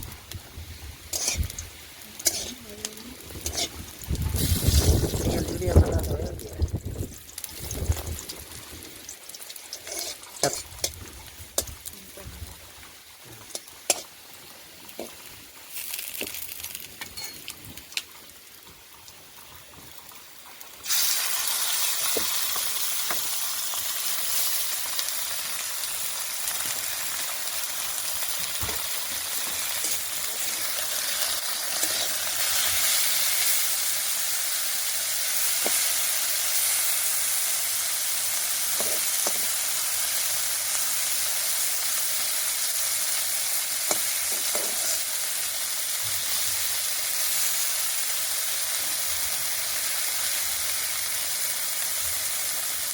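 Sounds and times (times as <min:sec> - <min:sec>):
fish sizzling in hot oil: 0:00.0 - 0:52.9.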